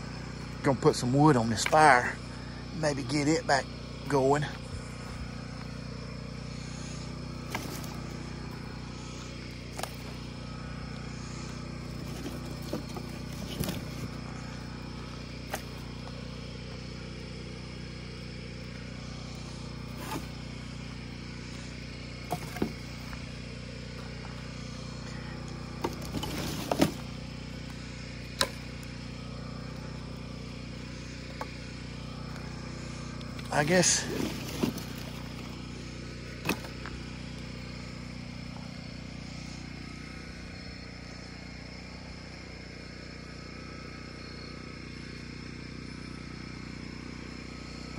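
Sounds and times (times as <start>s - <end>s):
generator humming: 0.0s - 47.9s.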